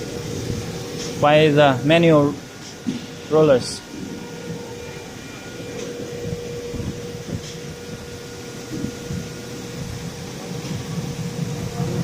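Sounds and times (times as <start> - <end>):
drilling machine humming: 0.0 - 12.0.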